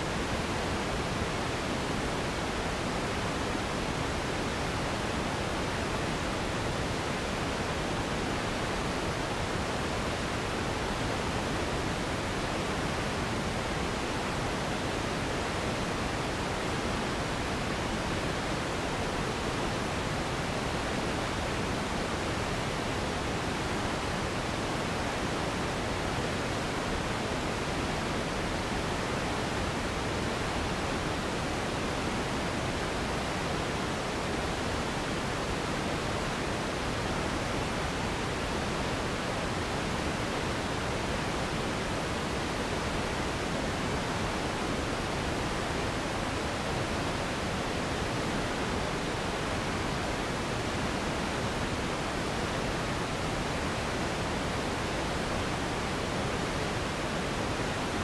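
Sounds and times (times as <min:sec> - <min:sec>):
steady hiss noise: 0:00.0 - 0:58.0.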